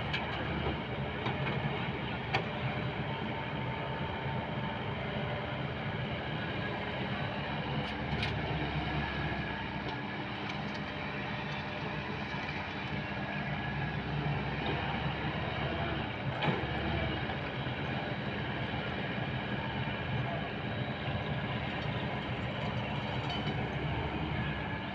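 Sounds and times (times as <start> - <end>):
heavy machinery diesel engine: 0.0 - 24.9.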